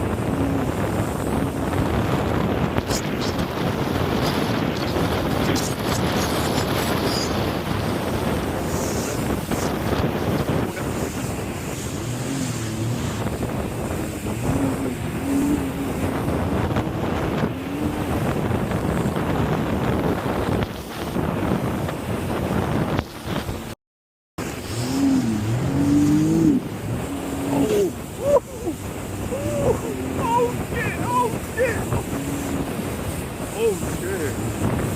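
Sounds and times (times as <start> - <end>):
jet ski engine running: 0.0 - 23.8, 24.4 - 34.9
water rushing: 0.0 - 23.8, 24.4 - 34.9
wind buffeting microphone: 0.0 - 23.8, 24.4 - 34.9.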